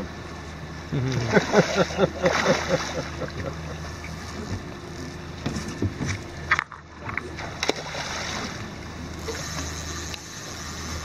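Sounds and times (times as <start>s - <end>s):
river water lapping against boat: 0.0s - 11.0s
steady low hum: 0.0s - 11.0s.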